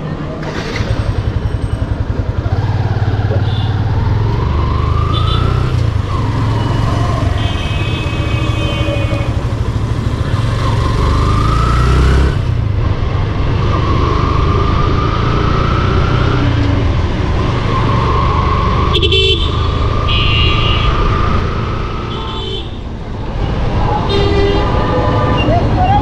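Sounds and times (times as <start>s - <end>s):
motorcycle engine accelerating: 0.4s - 22.1s.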